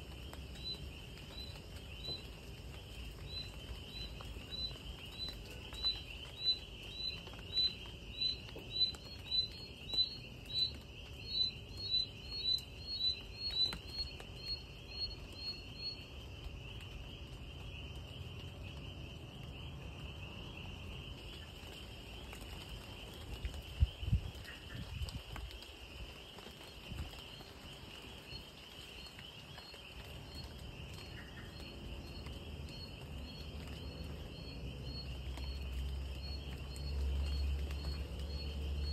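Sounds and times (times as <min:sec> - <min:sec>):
insect chirping: 0:00.0 - 0:38.9
insects trilling: 0:00.0 - 0:38.9.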